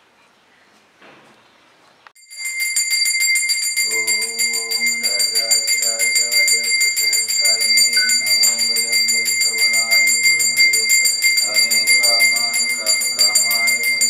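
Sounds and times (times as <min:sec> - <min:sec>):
bell ringing rapidly: 0:02.2 - 0:14.0.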